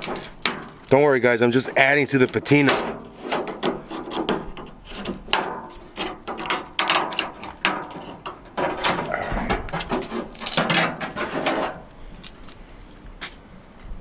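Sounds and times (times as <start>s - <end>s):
tools scraping and knocking on metal door: 0.0s - 11.9s.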